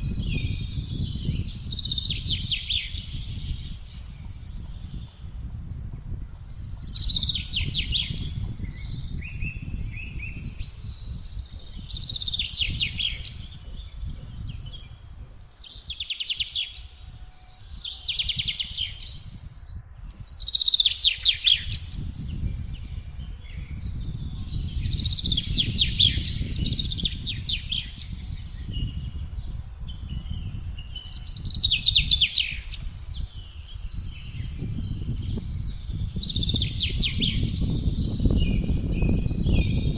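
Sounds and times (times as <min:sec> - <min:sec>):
songbirds trilling: 0:00.0 - 0:39.9
wind rumbling: 0:00.0 - 0:39.9.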